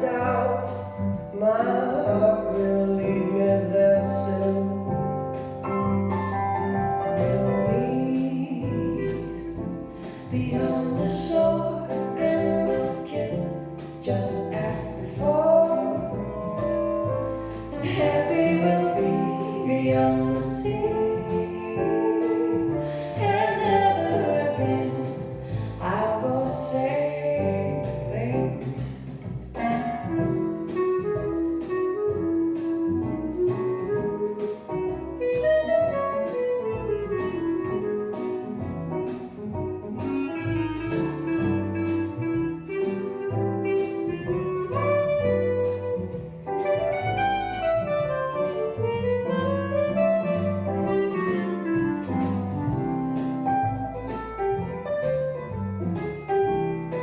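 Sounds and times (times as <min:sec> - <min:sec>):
instrumental jazz: 0:00.0 - 0:57.0.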